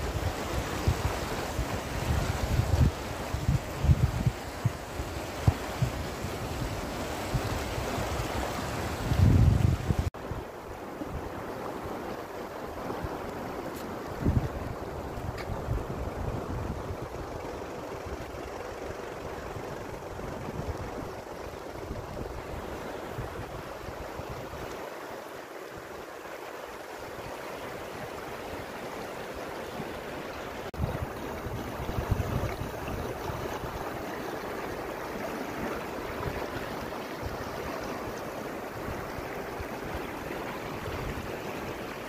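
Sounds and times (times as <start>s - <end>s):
shallow stream babbling: 0.0s - 42.0s.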